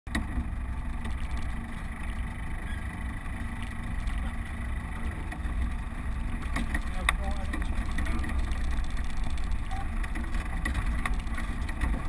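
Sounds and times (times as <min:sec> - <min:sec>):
vehicle engine rumbling: 0:00.1 - 0:12.0.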